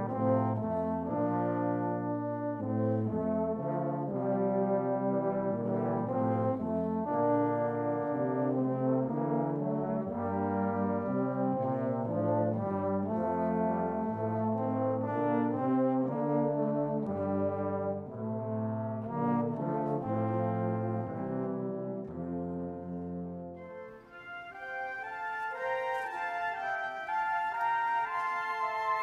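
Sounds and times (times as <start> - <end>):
low brass ensemble playing ballad: 0.0 - 29.0.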